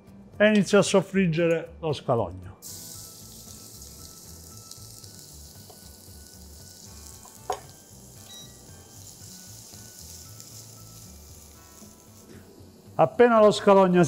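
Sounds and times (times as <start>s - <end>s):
shallot sizzling in oil: 2.6s - 14.0s.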